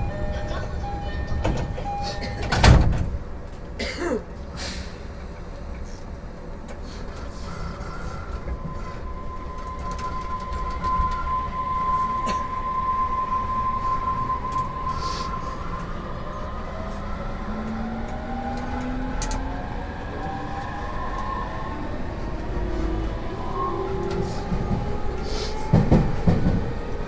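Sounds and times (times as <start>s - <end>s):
train wheels rumbling: 0.0s - 27.0s
train motors whining: 4.8s - 27.0s.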